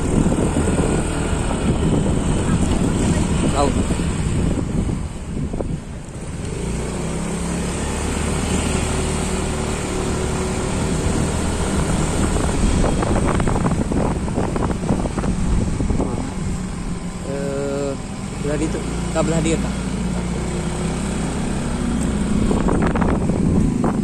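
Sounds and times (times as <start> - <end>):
motorcycle engine running: 0.0 - 24.0
wind rumbling on microphone: 0.0 - 24.0.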